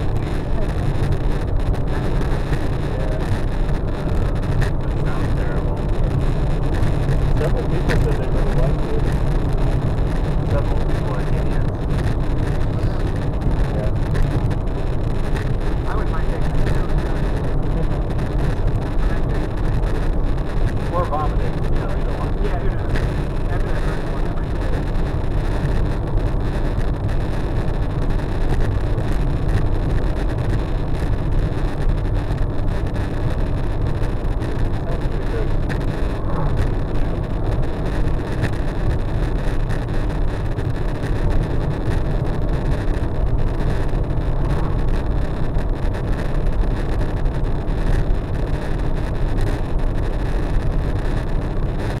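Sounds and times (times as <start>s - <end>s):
car road noise rumble: 0.0s - 52.0s
dashcam vibration noise: 0.0s - 52.0s.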